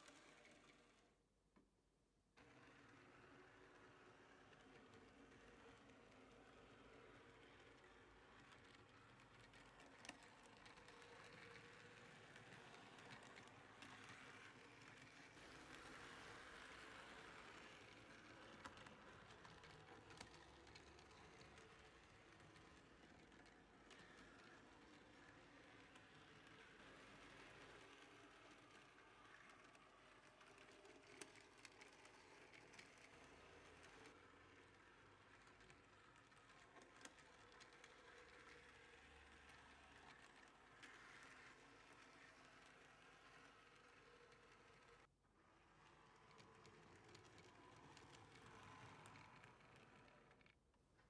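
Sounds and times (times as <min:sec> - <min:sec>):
model railcar motor and wheels: 0:00.0 - 0:01.3, 0:02.4 - 0:51.0.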